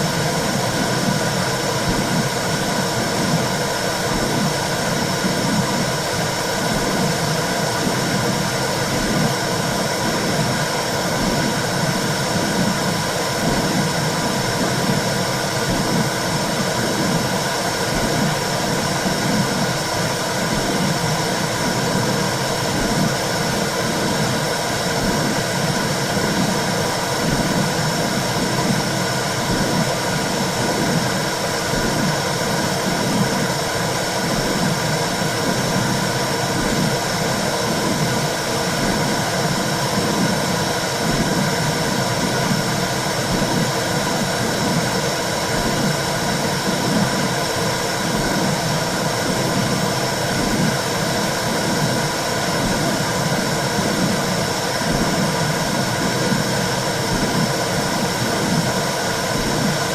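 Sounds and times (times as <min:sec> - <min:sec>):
low heartbeat pulse: 0:00.3 - 0:06.0, 0:10.0 - 0:33.6, 0:34.2 - 0:50.8, 0:51.4 - 0:58.8.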